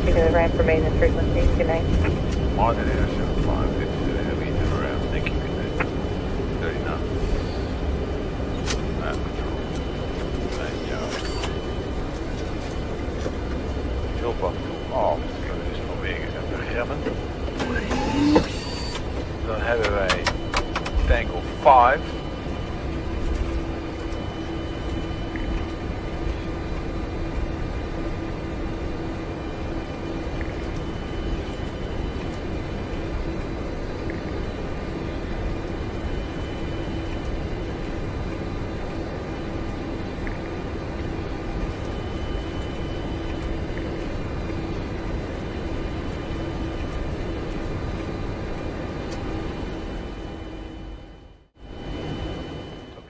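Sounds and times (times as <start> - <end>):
airliner low rumble: 0.0 - 53.0
steady hum: 0.0 - 53.0.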